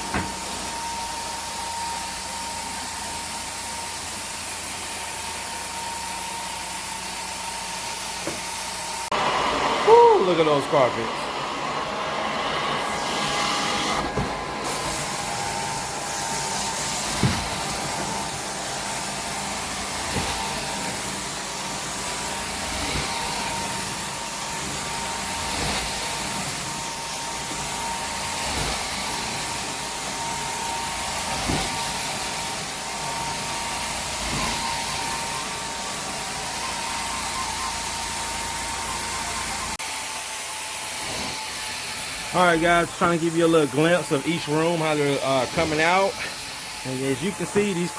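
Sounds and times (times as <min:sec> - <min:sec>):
carpet cleaner whining: 0:00.0 - 0:47.9.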